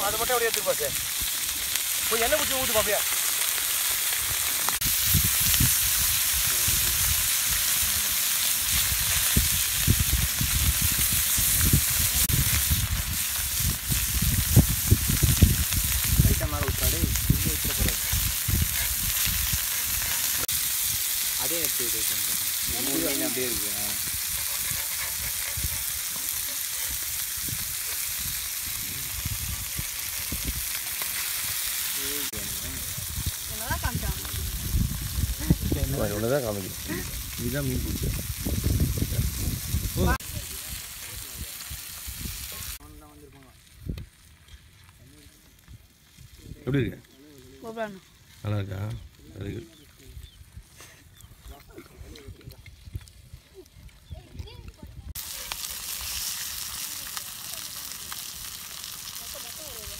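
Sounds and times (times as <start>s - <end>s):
fish sizzling in hot oil: 0.0s - 51.6s, 55.1s - 59.9s.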